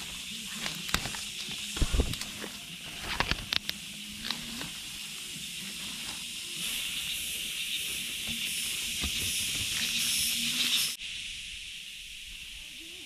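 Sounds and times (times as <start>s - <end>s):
dry grass rustling: 0.0s - 11.0s
faint crackles: 0.0s - 11.0s
steady high hiss: 0.0s - 13.0s.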